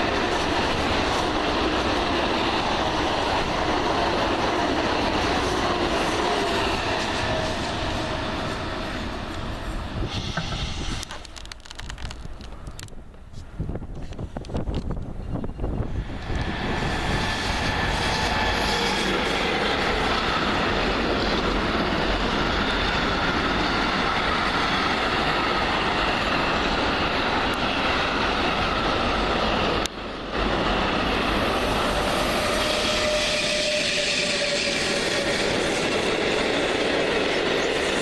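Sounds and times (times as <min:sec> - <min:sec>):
train rolling: 0:00.0 - 0:38.0.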